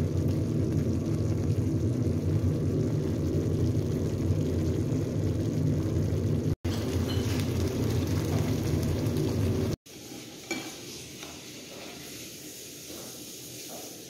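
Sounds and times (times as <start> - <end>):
sauce simmering in a frying pan: 0.0 - 14.0.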